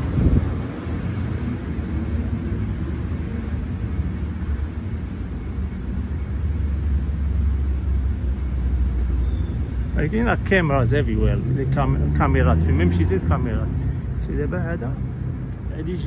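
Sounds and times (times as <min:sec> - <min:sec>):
car interior road and engine noise: 0:00.0 - 0:16.0.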